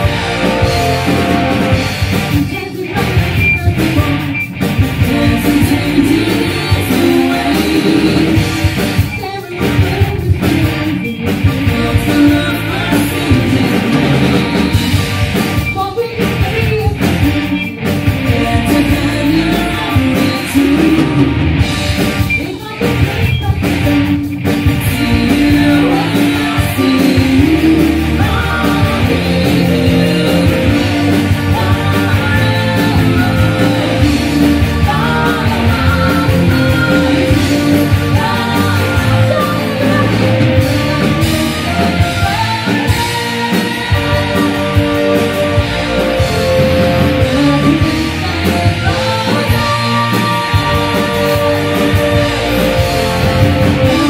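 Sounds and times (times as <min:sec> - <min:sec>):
live rock band playing: 0:00.0 - 0:54.0
woman singing: 0:02.3 - 0:04.4, 0:05.0 - 0:21.4, 0:22.3 - 0:45.2, 0:47.0 - 0:54.0.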